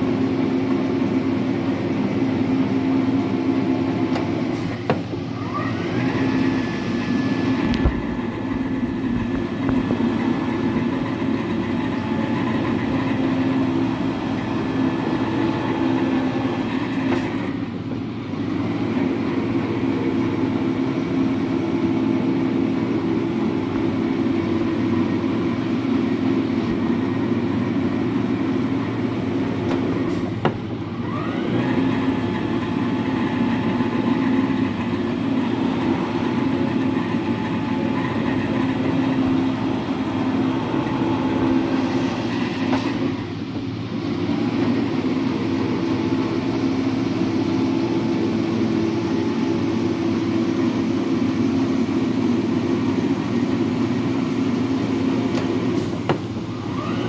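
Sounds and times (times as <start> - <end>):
metal planer humming: 0.0 - 57.0
rising machine whine: 5.3 - 52.9, 54.0 - 57.0.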